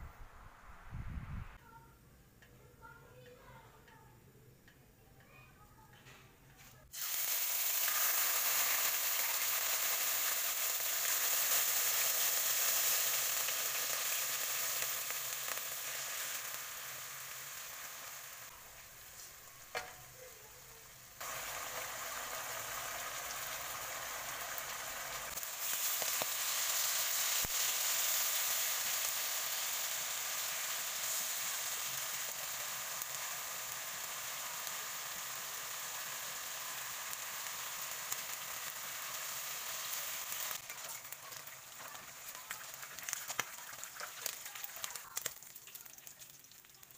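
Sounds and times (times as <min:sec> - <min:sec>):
meat sizzling in hot oil: 0:06.9 - 0:46.9.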